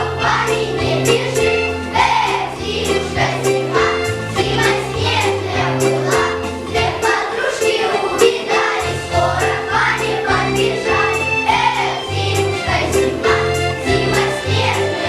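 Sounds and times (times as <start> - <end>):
voices singing: 0.0 - 15.0.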